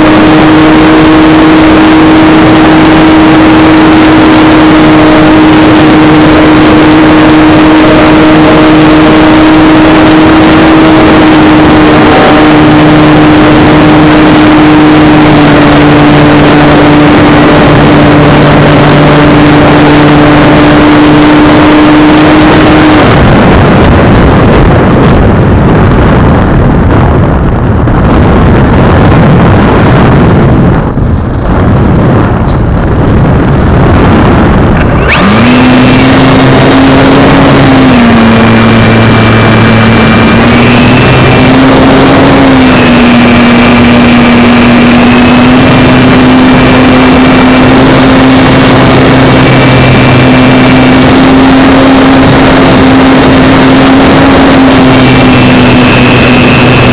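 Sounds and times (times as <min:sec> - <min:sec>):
model plane motor and propeller drone: 0:00.0 - 0:23.6, 0:34.7 - 0:56.9
wind rushing over microphone: 0:00.0 - 0:56.9.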